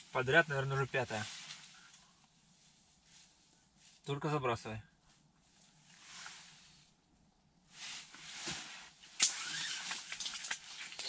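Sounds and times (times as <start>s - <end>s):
winter suit rustling: 0.0s - 4.1s, 5.0s - 7.0s, 7.7s - 11.0s.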